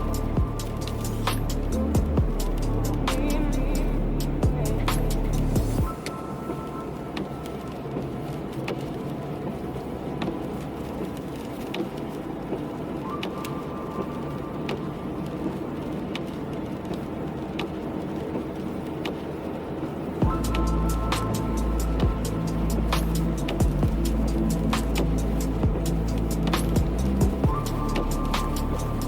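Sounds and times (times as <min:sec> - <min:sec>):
raindrops ticking: 0:00.0 - 0:29.0
tyres hissing on wet road: 0:00.0 - 0:29.0.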